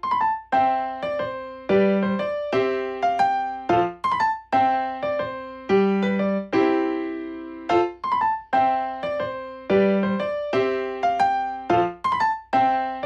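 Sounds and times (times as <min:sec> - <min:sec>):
keyboard melody: 0:00.0 - 0:13.0.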